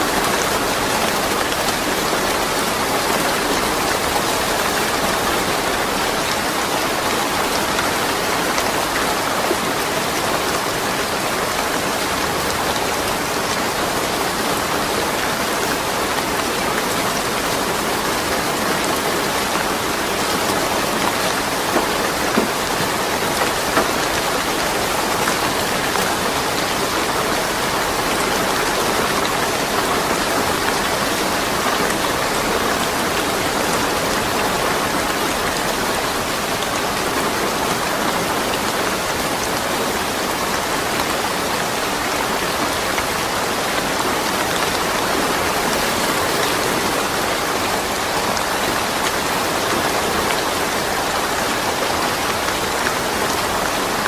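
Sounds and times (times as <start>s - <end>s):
louder raindrops: 0.0s - 54.0s
steady rain falling: 0.0s - 54.0s.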